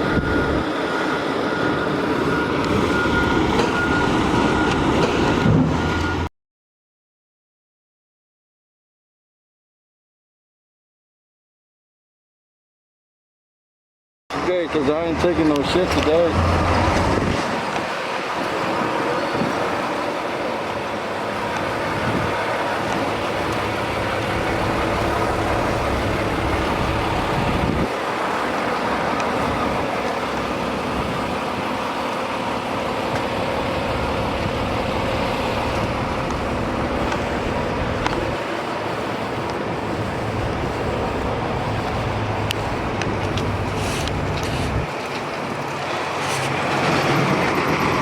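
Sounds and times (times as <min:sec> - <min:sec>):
road traffic noise: 0:00.0 - 0:06.3, 0:14.3 - 0:48.0
vehicle engine rumble: 0:00.0 - 0:06.3, 0:14.3 - 0:48.0.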